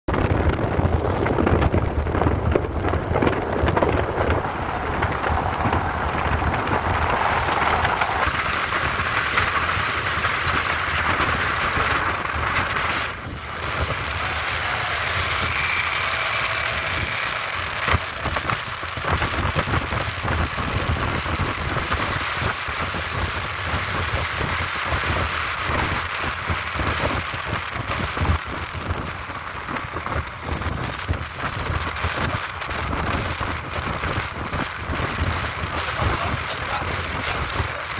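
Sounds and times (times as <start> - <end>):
motorcycle engine low rumble: 0.1 - 37.9
wind rushing over microphone: 0.1 - 37.9.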